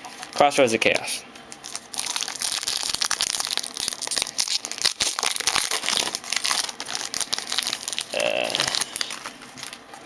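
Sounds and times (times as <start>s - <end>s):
foil wrapper crinkling: 1.5s - 10.0s.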